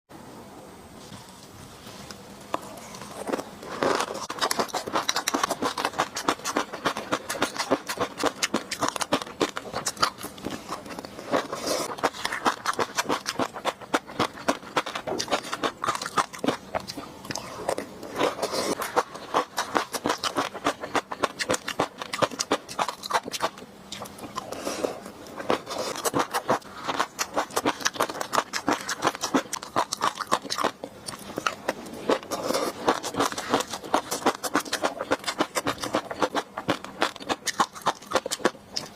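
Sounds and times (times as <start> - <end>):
wet chewing: 2.5 - 38.9.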